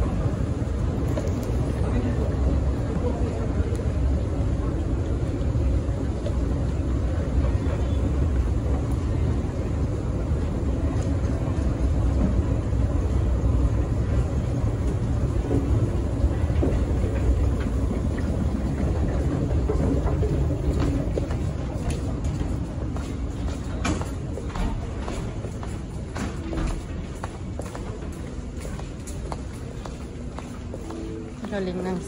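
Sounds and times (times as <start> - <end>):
escalator rumbling: 0.0 - 32.0.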